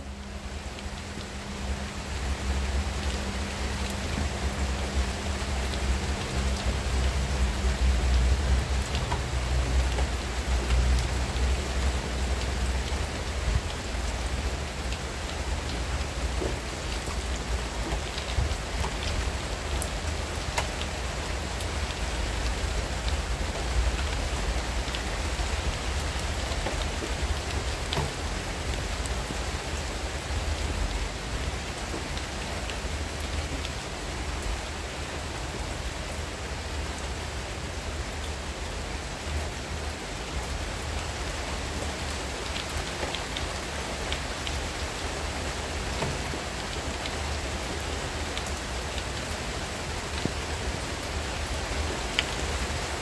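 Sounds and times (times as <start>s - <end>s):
rain on leaves: 0.0s - 53.0s.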